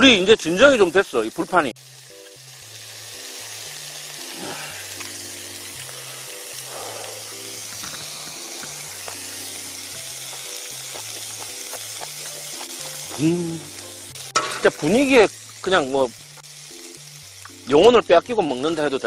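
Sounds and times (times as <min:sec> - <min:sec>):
meat sizzling on hot metal: 0:00.0 - 0:19.0
background music with bass notes: 0:02.0 - 0:19.0.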